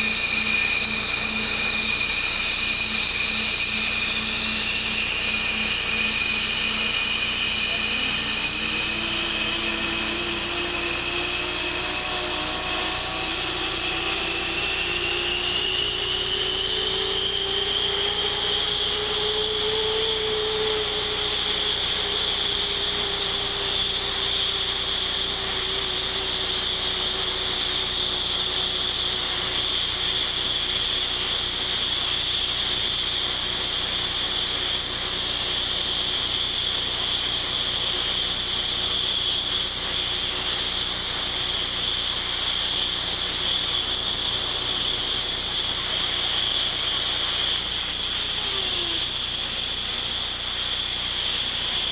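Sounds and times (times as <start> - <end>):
jet engine whine: 0.0 - 51.9
jet engines running: 0.0 - 51.9.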